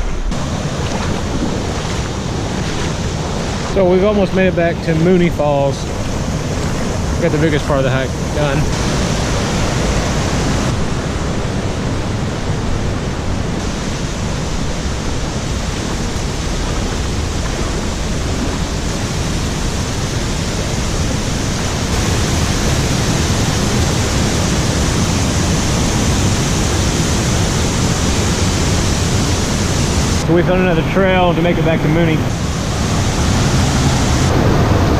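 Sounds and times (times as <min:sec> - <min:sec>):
creek water rushing over cascades: 0:00.0 - 0:34.9.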